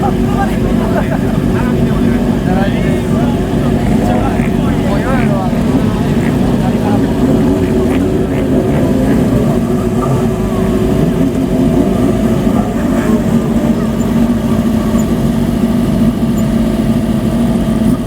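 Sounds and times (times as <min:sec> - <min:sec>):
motorcycle engines idling: 0:00.0 - 0:18.0.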